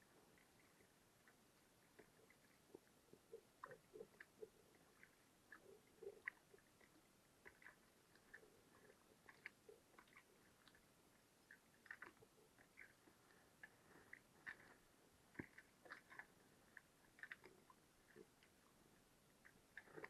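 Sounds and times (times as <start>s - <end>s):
faint small clicks: 0.3s - 18.7s.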